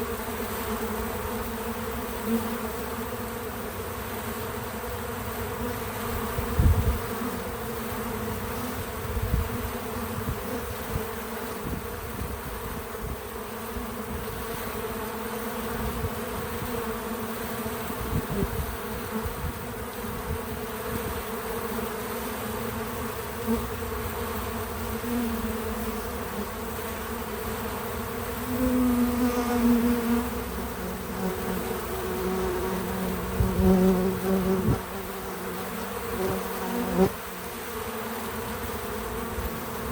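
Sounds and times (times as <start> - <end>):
bees buzzing: 0.0 - 39.9
single bee passing close: 0.0 - 39.9.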